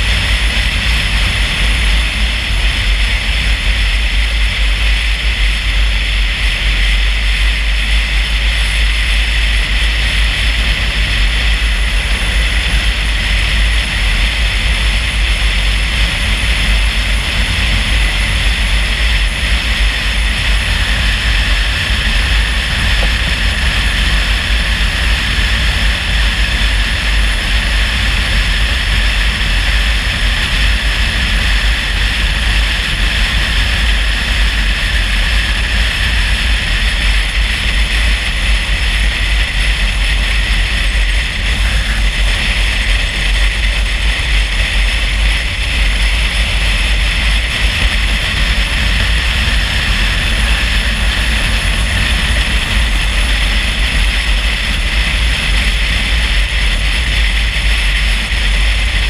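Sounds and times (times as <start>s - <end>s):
car road noise: 0.0s - 59.0s.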